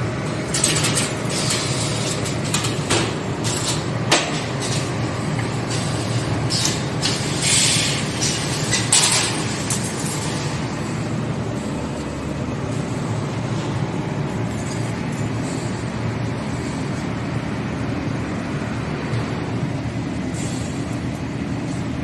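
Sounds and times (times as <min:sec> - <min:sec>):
machine running steadily: 0:00.0 - 0:22.0.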